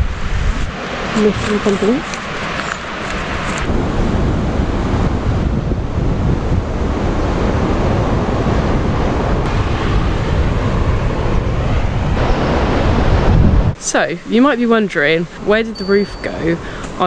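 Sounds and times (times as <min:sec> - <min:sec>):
wind blowing across microphone: 0:00.0 - 0:13.8.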